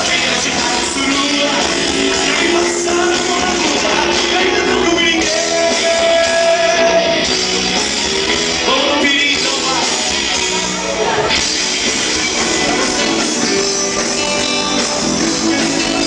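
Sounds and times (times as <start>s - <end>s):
band music with singing: 0.0s - 16.0s.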